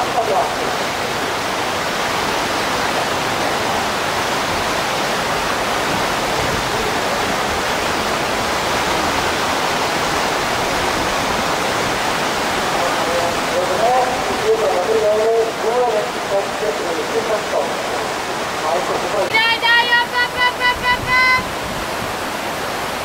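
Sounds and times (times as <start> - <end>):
whitewater rapids rushing: 0.0 - 23.0.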